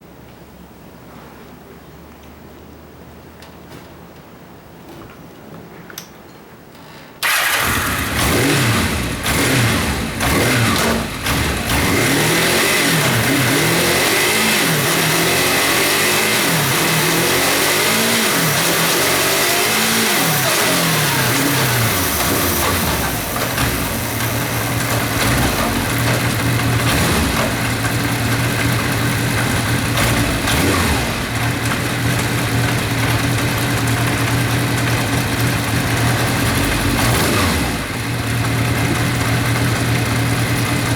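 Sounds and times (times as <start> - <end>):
motorcycle engine revving: 7.2 - 40.9.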